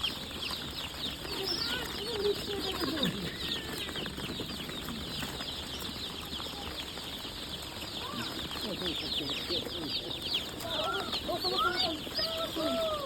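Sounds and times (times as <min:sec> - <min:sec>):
lower falling bird calls: 0:00.0 - 0:13.0
small birds chirping: 0:00.0 - 0:13.0.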